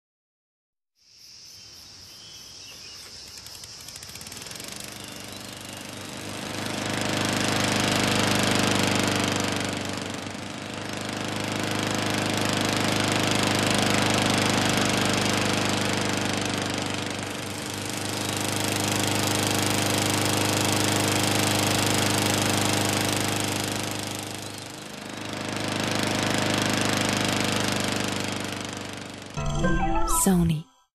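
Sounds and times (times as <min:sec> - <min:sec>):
lawnmower engine running: 0:02.9 - 0:29.4.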